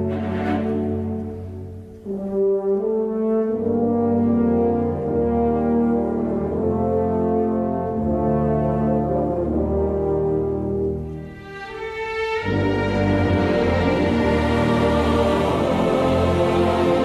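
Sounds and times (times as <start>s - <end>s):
brass instruments playing chords: 0.0s - 11.4s, 12.4s - 17.0s.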